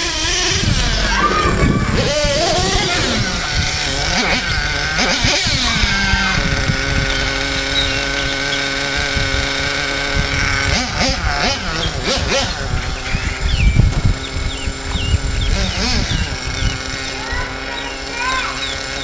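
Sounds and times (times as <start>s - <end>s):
small nitro engine revving: 0.0s - 19.0s.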